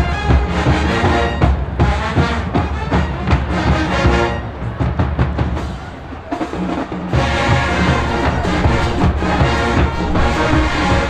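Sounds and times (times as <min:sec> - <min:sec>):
heavy drum section: 0:00.0 - 0:11.0
marching band brass: 0:00.0 - 0:11.0.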